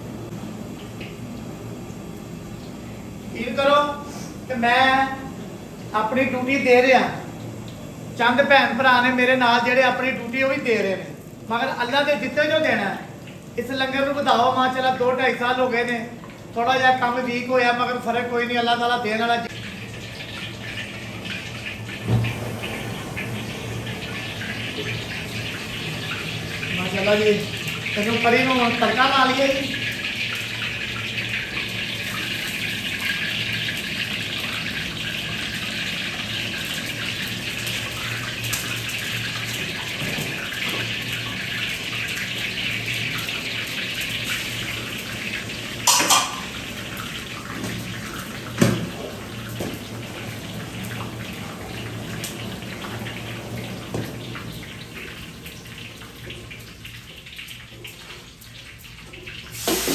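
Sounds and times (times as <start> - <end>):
hot oil and spices sizzling: 0.0 - 59.9.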